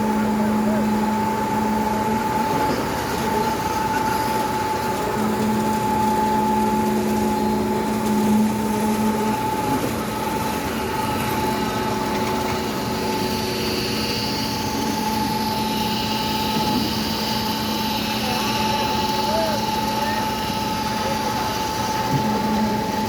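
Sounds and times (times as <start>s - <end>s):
truck engine with high whine: 0.0s - 23.0s.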